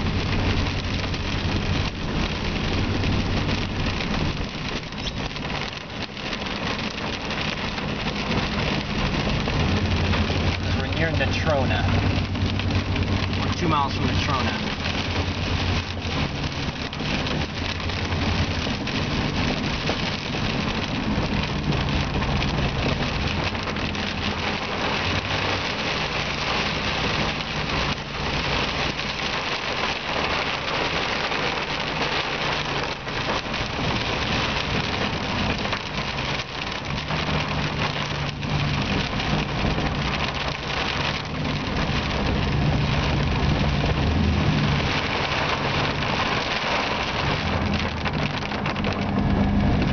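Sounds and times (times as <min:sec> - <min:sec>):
car engine hum: 0:00.0 - 0:49.9
rain drumming on car roof: 0:00.0 - 0:49.9.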